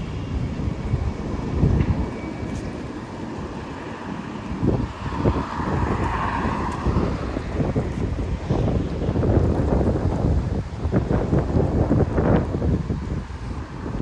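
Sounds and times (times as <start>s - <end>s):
car tyres hissing on wet asphalt: 0.0s - 14.0s
street noise: 0.0s - 14.0s
wind gusting on microphone: 0.0s - 14.0s.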